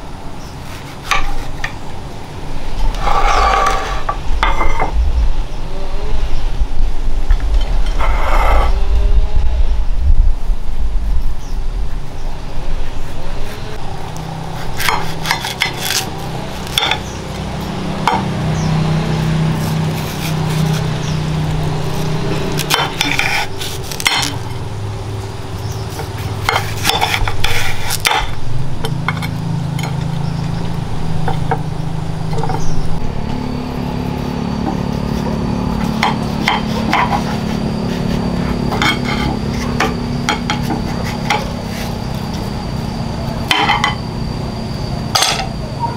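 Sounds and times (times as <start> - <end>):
low hum shifting in pitch: 1.7 - 45.9.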